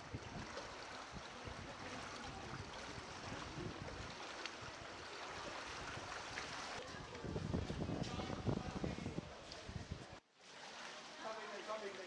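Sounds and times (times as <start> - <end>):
people wading through water: 0.0 - 12.0.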